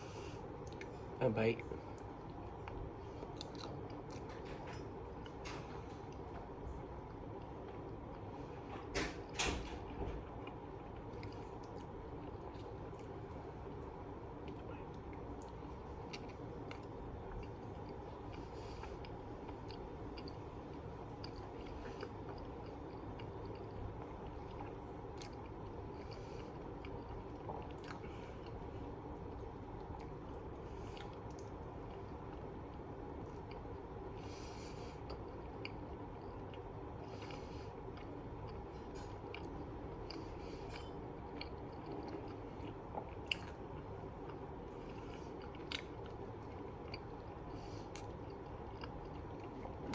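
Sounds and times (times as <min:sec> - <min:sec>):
low background hum: 0:00.0 - 0:49.9
person chewing: 0:01.9 - 0:04.4, 0:10.4 - 0:49.9.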